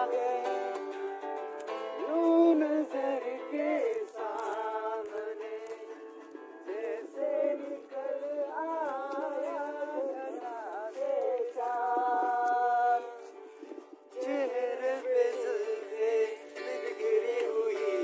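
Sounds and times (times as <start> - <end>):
person singing wordless melody: 0.0 - 18.0.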